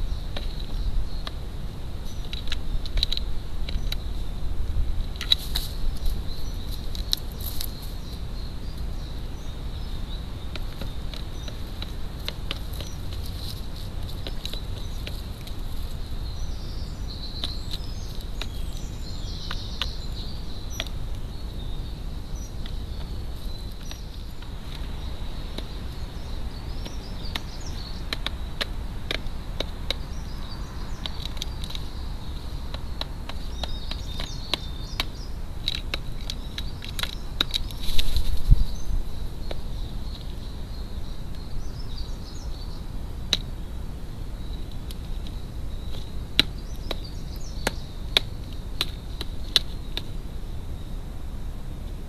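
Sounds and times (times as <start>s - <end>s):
birds scuffling: 0.0s - 52.0s
small birds chirping: 0.0s - 52.0s.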